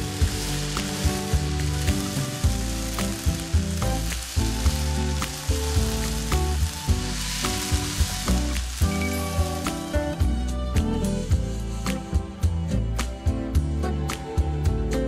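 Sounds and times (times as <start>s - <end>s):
food sizzling in a wok: 0.0s - 12.4s
background music: 0.0s - 15.0s.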